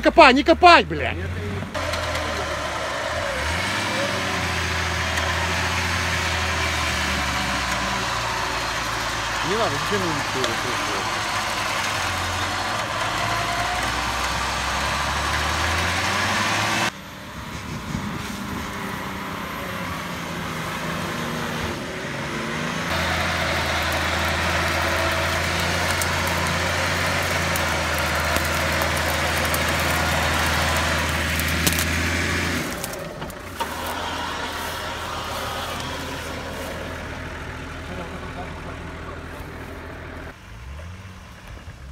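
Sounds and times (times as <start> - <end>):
off-road engine droning: 0.0 - 41.9.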